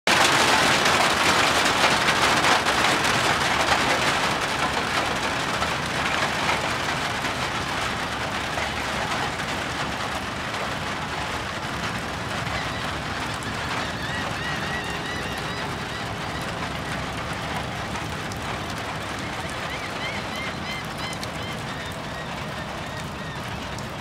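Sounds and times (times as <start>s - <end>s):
rain falling steadily: 0.1s - 24.0s.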